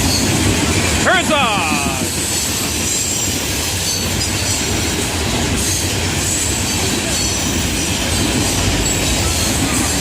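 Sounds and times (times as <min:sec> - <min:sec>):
faint high wheel squeal: 0:00.0 - 0:00.9, 0:02.2 - 0:10.0
steel wheels rumbling on rail: 0:00.0 - 0:10.0.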